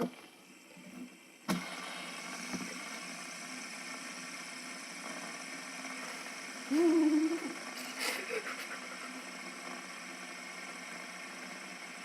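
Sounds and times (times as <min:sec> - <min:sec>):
fidget spinners whirring: 0:01.9 - 0:12.0.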